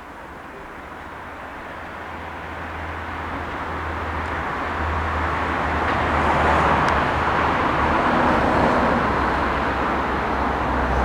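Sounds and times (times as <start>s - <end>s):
road traffic passing: 1.8s - 11.0s.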